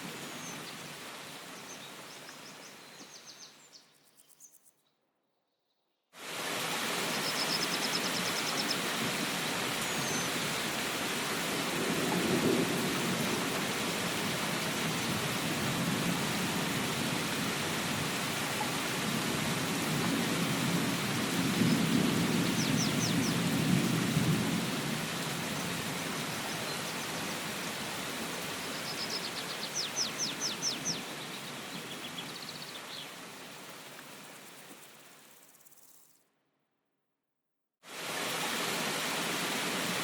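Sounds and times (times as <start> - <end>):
steady rain: 0.0 - 3.3, 6.2 - 35.4, 37.9 - 40.0.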